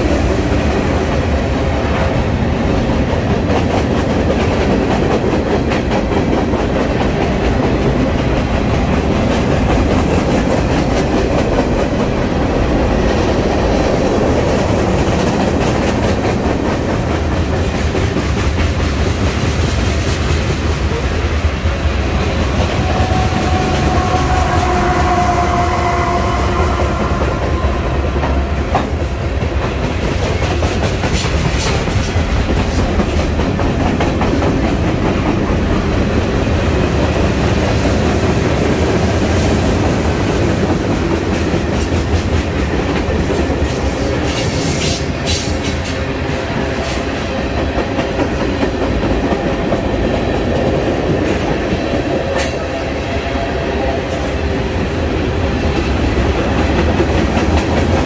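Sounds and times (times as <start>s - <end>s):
clickety-clack of wheels: 0.0s - 25.2s, 26.7s - 52.9s, 53.8s - 58.0s
freight train rumbling past: 0.0s - 58.0s.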